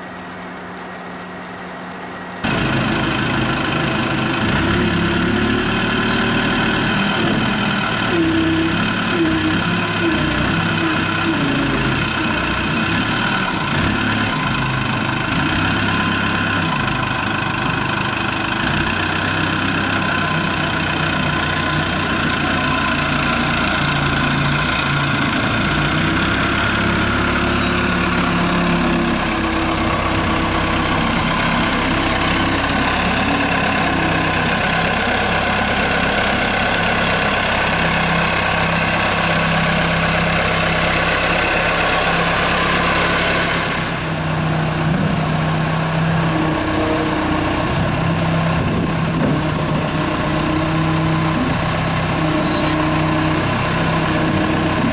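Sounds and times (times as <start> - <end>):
forklift engine running: 0.0 - 54.9.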